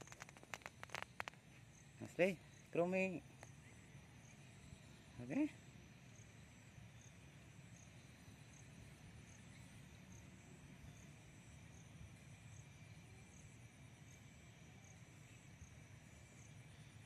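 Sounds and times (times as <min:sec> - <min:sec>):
faint insects chirring: 0:00.0 - 0:17.0.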